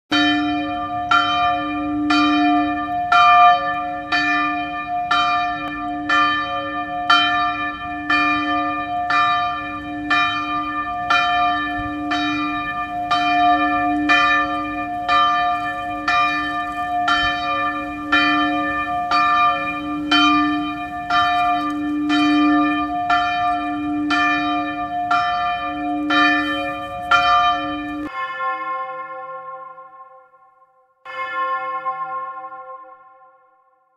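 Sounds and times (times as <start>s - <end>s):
church bell ringing: 0.1s - 33.9s.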